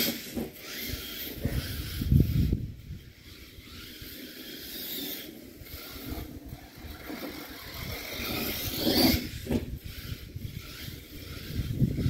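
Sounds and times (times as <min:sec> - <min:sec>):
rc truck motor and tyres: 0:00.0 - 0:12.0.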